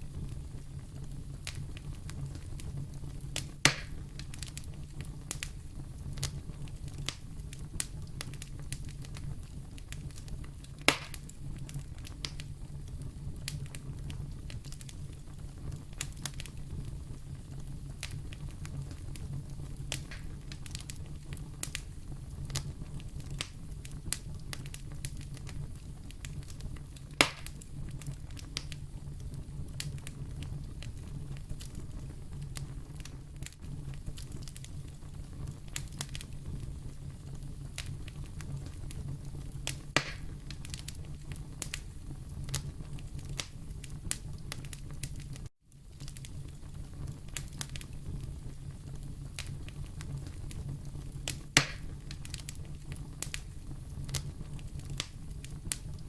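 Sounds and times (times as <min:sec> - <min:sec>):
fire pops: 0:00.0 - 0:56.0
wood fire crackling: 0:00.0 - 0:56.0.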